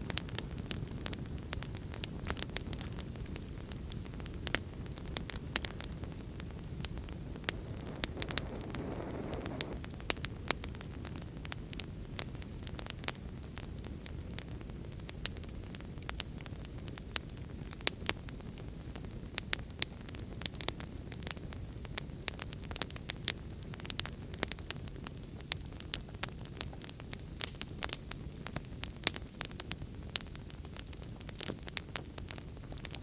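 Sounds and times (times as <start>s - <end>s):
fire crackling and popping: 0.0s - 33.0s
low rumble of fire: 0.0s - 33.0s.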